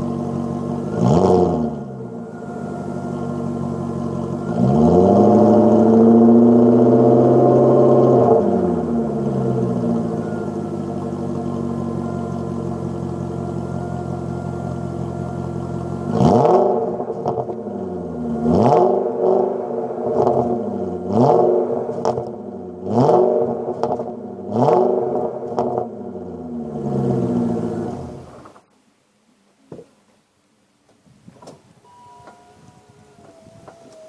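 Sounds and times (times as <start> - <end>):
car engine idling and revving: 0.0 - 28.6, 31.9 - 34.0.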